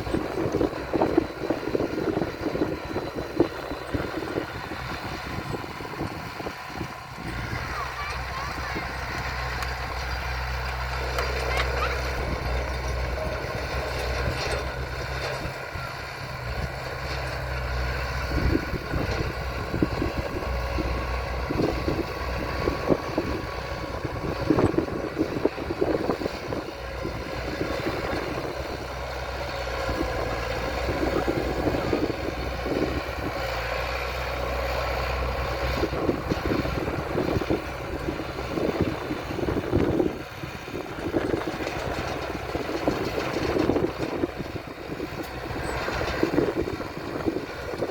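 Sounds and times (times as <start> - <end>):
diesel engine drone: 0.0 - 47.9
machinery clanks and knocks: 5.5 - 47.9.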